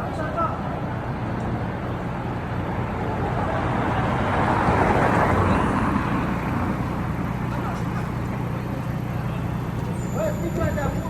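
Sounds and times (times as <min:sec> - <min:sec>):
road noise: 0:00.0 - 0:11.0
engine drone: 0:00.5 - 0:11.0.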